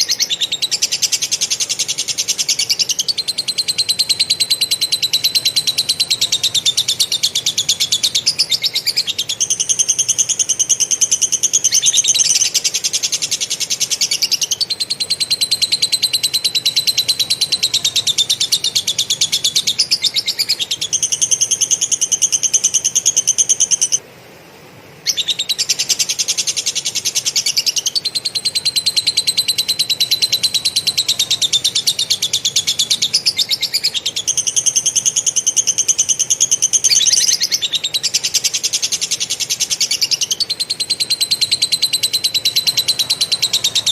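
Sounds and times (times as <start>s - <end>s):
bird singing high chattering trill: 0.0s - 24.0s, 25.0s - 43.9s.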